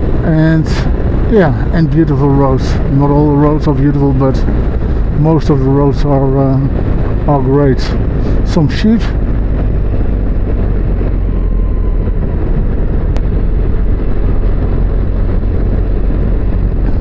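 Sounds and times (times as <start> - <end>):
motorcycle engine rumble: 0.0 - 17.0
wind and road noise: 0.0 - 17.0.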